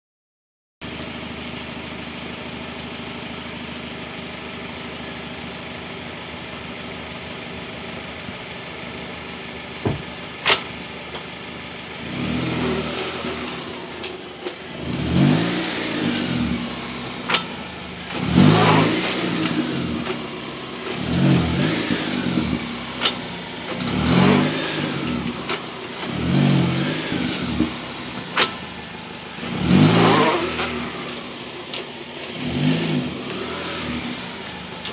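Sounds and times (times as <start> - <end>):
car engine idling: 0.8 - 34.9.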